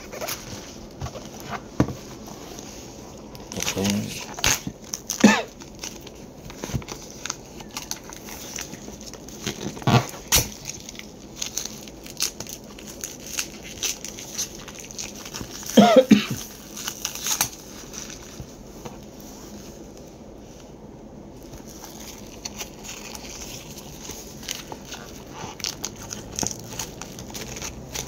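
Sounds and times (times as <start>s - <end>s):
plastic film crinkling: 0.0s - 28.0s.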